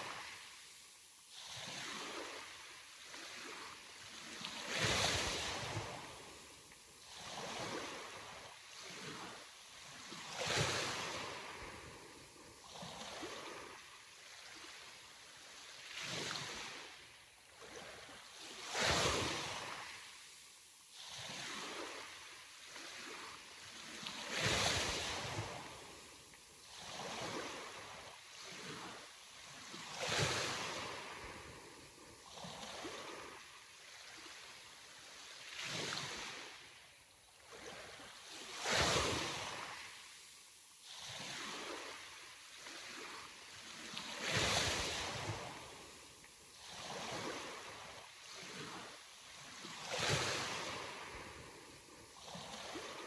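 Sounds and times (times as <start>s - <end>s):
surf wash and hiss: 0.0s - 53.0s
sea waves breaking: 1.3s - 20.4s, 21.0s - 36.8s, 37.4s - 53.0s.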